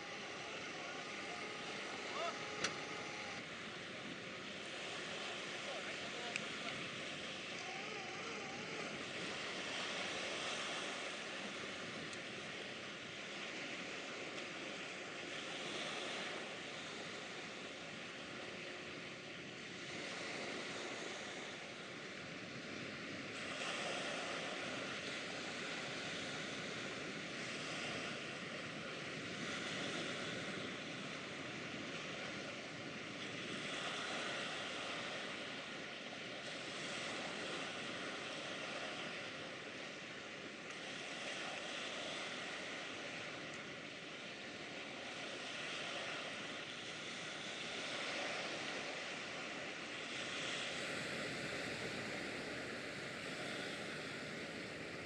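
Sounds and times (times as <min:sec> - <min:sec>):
river waves: 0:00.0 - 0:55.0
wind: 0:00.0 - 0:55.0.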